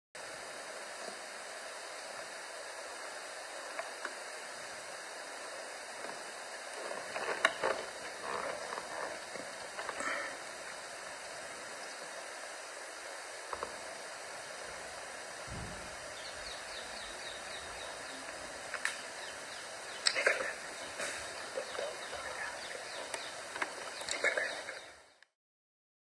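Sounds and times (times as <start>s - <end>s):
faint steady hiss: 0.2s - 25.4s.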